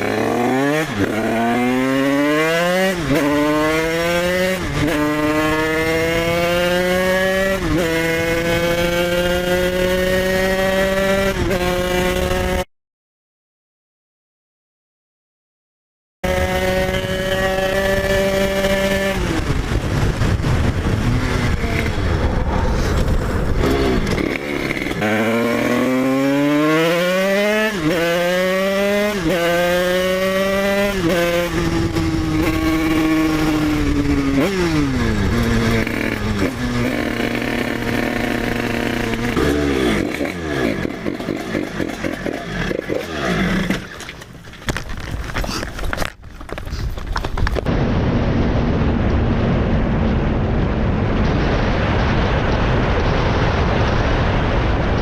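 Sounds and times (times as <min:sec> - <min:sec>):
dirt bike engine accelerating: 0:00.0 - 0:12.6, 0:16.2 - 0:55.0.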